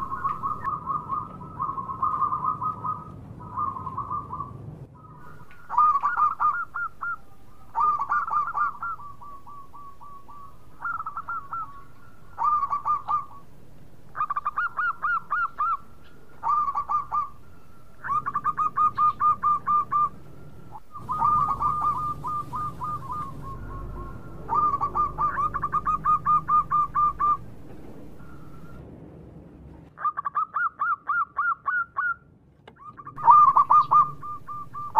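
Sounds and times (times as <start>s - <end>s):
dove cooing: 0.0s - 28.8s, 32.8s - 34.9s.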